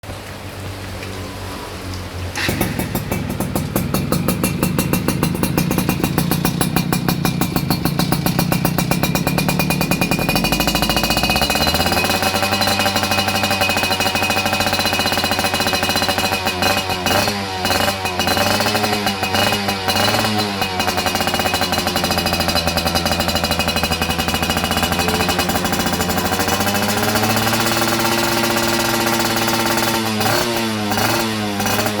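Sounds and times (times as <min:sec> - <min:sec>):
engine throttle blips: 0:00.1 - 0:32.0
two-stroke engine running: 0:02.4 - 0:32.0.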